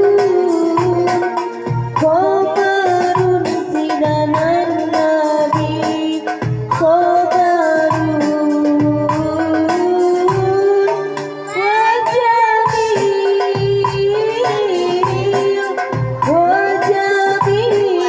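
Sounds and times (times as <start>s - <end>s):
backing track with hand drums: 0.0s - 18.0s
woman singing with vibrato: 2.0s - 18.0s.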